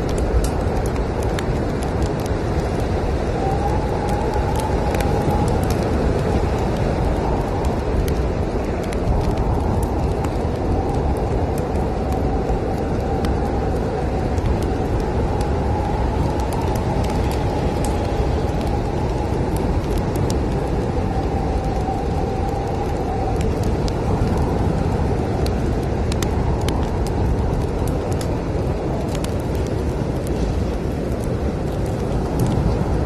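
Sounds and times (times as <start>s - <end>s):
howling storm wind: 0.0s - 33.0s
wood fire crackling: 0.0s - 33.0s.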